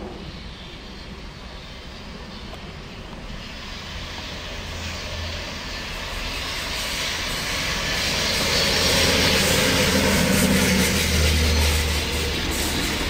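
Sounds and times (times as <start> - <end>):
train approaching rushing: 0.0 - 13.0.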